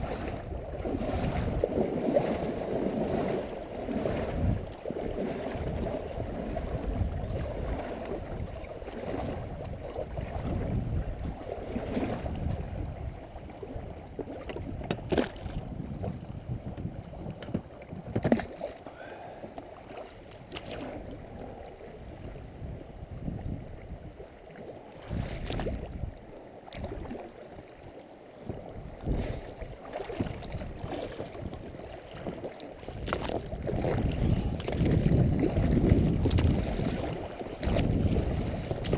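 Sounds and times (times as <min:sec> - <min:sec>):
wind buffeting microphone: 0:00.0 - 0:18.4, 0:20.4 - 0:24.2, 0:25.0 - 0:26.2, 0:28.5 - 0:38.9
river water rushing and slapping: 0:00.0 - 0:38.9.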